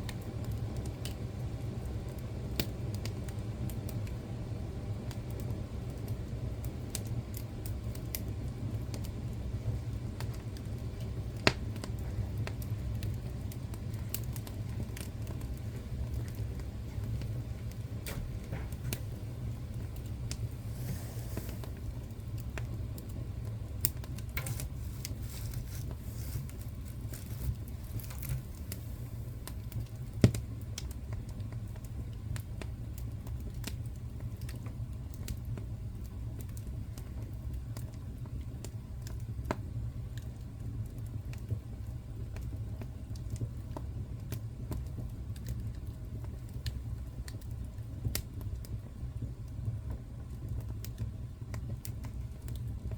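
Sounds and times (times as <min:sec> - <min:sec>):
fire crackling and popping: 0:00.0 - 0:52.9.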